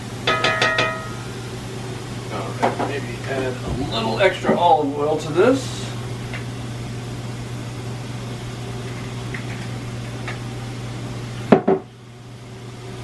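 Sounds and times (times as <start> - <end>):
beets frying in oil: 0.0 - 11.7
cooktop hum: 0.0 - 13.0.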